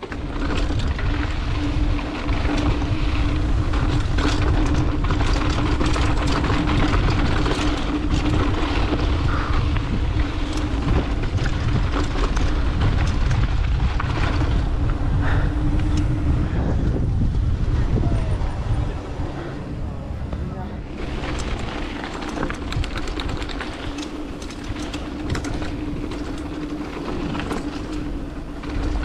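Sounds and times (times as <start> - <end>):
bike rattling over bumps: 0.0 - 29.0
steady hum: 0.0 - 29.0
tyres rumbling: 0.0 - 29.0
wind rushing over microphone: 0.0 - 29.0.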